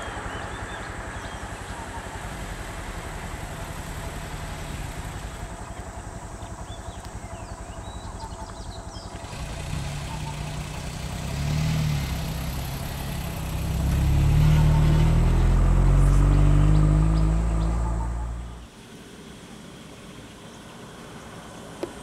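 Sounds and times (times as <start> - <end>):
vehicle engine idling and revving: 0.0 - 22.0.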